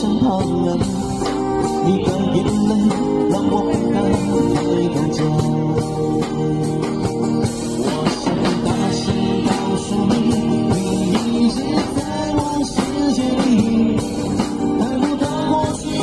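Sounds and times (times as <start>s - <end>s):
acoustic guitar: 0.0s - 16.0s
drum kit beat: 0.0s - 16.0s
man singing: 0.0s - 16.0s.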